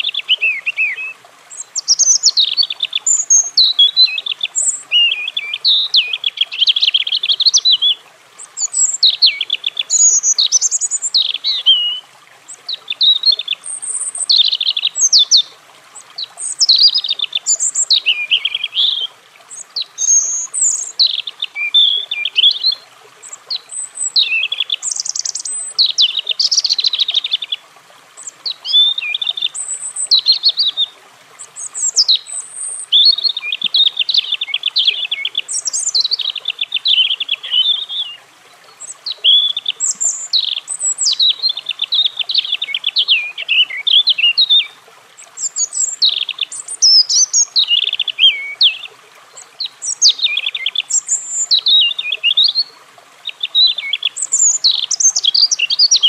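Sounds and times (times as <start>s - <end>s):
robin singing: 0.0s - 27.6s, 28.2s - 56.0s.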